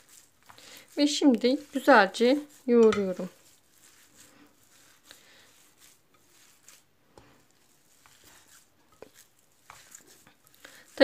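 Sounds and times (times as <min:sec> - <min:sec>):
meat squishing by hand: 0:00.0 - 0:11.0.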